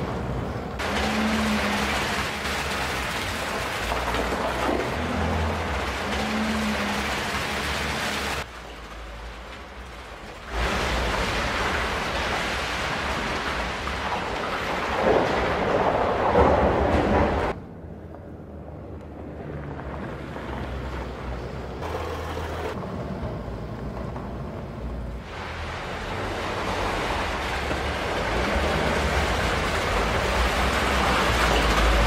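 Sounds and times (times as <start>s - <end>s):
tyres rolling over gravel: 0.0s - 17.6s, 19.3s - 32.0s.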